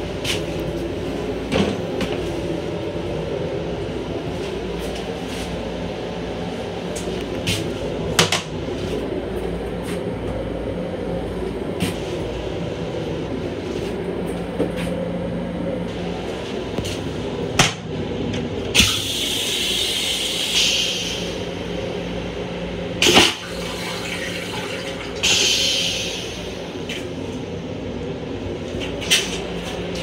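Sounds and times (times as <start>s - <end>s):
electric railcar rumble and hum: 0.0s - 30.0s.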